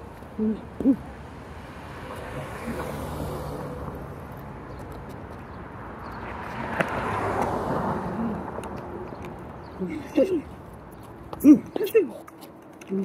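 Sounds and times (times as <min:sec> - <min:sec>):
cars passing on street: 0:00.0 - 0:13.0.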